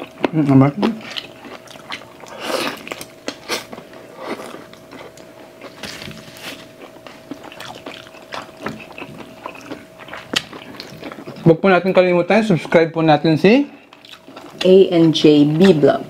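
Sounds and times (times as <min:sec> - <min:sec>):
wet chewing: 0:00.0 - 0:11.5, 0:13.8 - 0:15.8.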